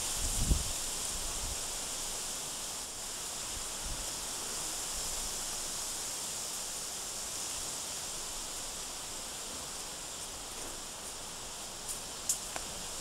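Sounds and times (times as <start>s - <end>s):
high-pitched outdoor hiss: 0.0s - 13.0s.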